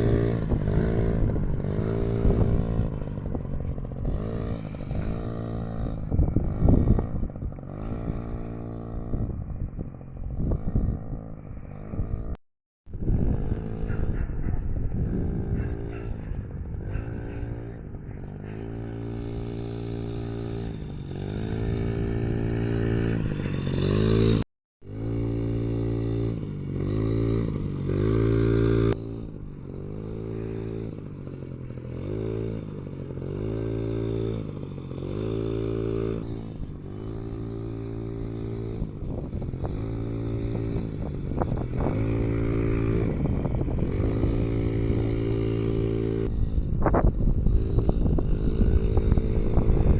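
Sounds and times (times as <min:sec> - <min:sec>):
two-stroke minibike engine revving: 0:00.0 - 0:49.9.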